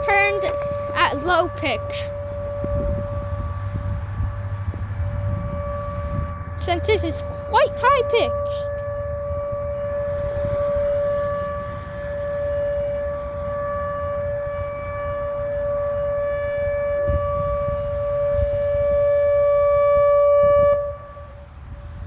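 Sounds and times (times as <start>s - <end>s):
steady high-pitched siren: 0.0s - 22.0s.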